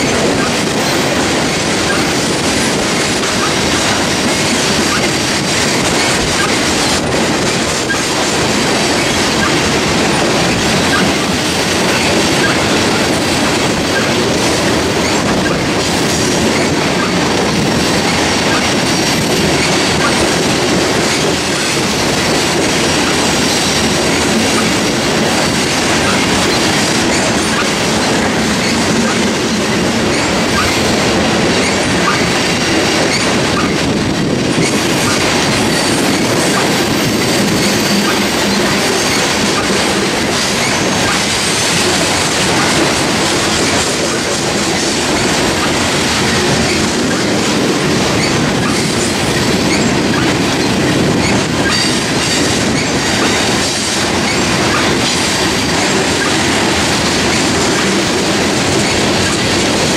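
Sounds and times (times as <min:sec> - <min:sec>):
freight trains rumbling and clattering: 0:00.0 - 0:59.9.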